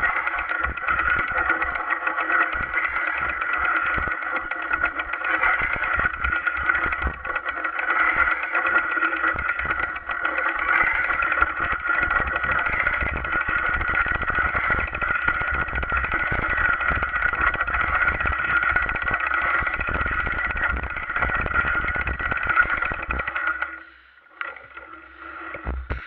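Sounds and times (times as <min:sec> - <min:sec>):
bicycle rattling on rough trail: 0:00.0 - 0:25.9.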